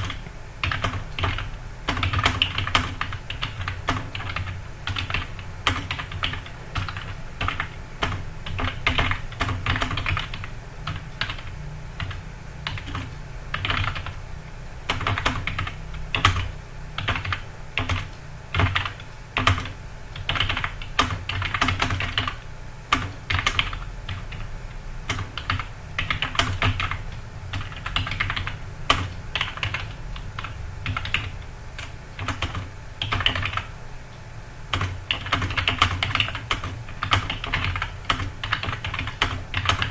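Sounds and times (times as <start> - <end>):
fast typing on keyboard: 0.0 - 14.2, 14.8 - 33.7, 34.7 - 39.9
low steady hum: 0.0 - 39.9.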